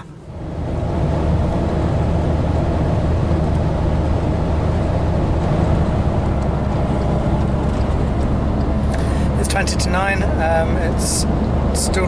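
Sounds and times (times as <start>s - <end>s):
van driving road and engine noise: 0.0s - 12.0s.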